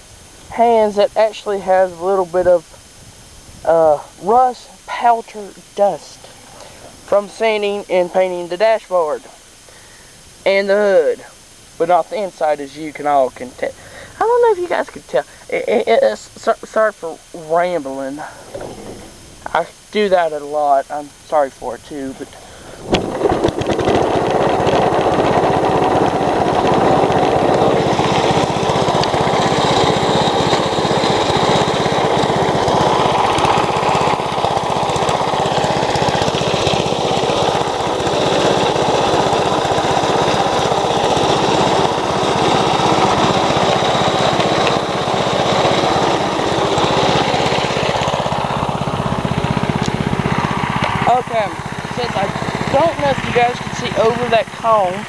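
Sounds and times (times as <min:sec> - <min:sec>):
lawnmower engine running: 0:00.0 - 0:55.0.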